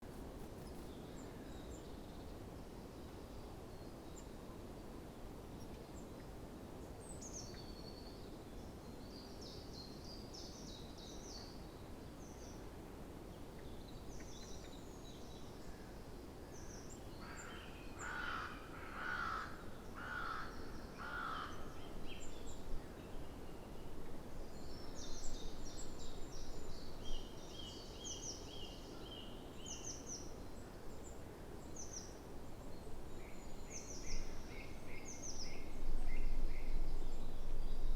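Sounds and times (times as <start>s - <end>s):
low background noise: 0.0s - 37.9s
songbirds chirping and trilling: 0.0s - 37.9s.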